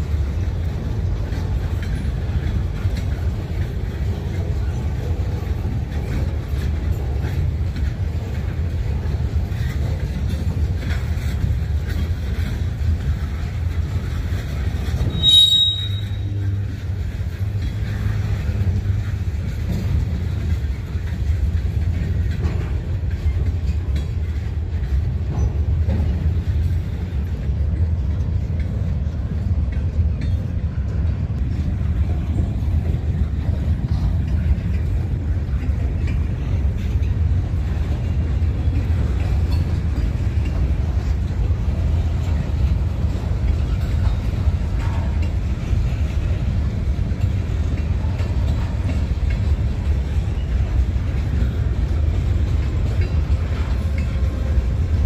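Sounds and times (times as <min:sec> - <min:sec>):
train rumbling by: 0:00.0 - 0:55.0.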